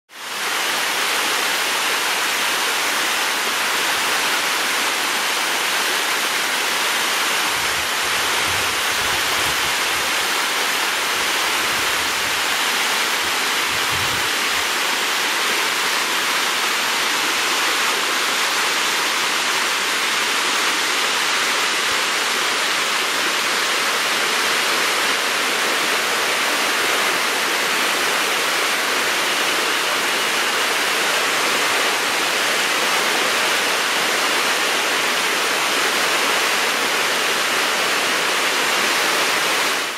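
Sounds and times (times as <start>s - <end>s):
waterfall rushing over rock: 0.1s - 39.9s.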